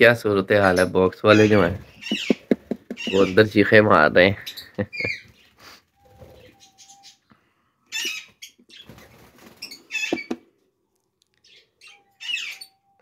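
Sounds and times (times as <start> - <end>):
bird chicks screaming calls: 0.6 - 3.6, 4.4 - 10.4, 11.5 - 13.0.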